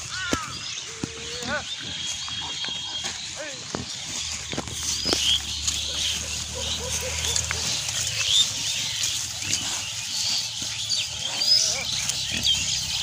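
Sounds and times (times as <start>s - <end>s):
high bird chirps: 0.0s - 13.0s
pigs grunting: 0.0s - 13.0s.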